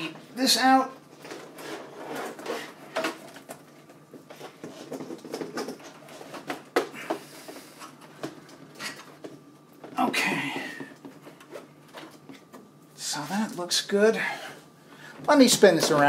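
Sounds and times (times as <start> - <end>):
cables rustling and scraping: 0.0 - 16.0.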